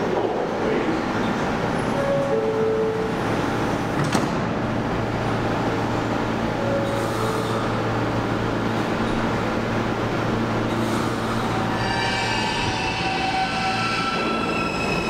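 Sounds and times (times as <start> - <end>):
train low hum: 0.0 - 15.0.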